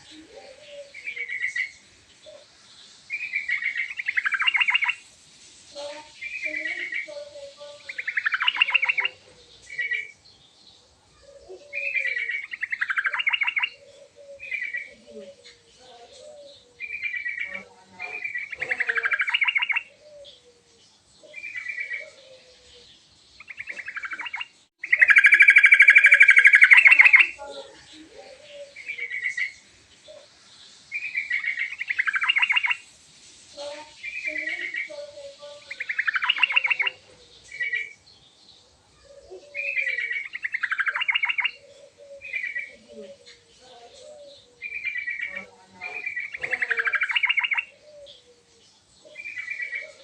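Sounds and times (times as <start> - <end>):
bird singing chattering phrases: 0.0 - 5.0, 5.7 - 32.9, 33.6 - 50.0.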